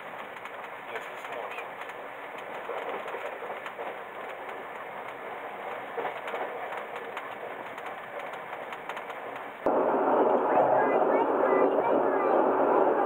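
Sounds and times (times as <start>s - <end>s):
train carriage rumbling: 0.0s - 13.0s.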